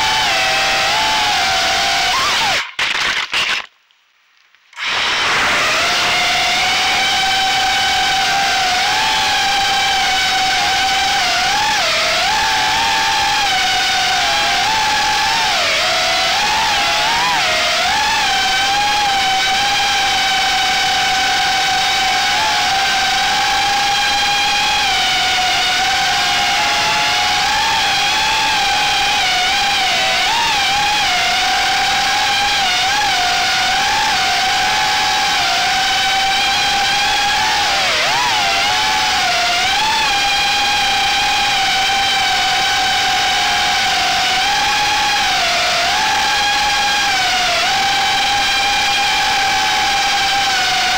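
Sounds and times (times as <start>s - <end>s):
drone propellers whining: 0.0s - 2.7s, 4.8s - 50.9s.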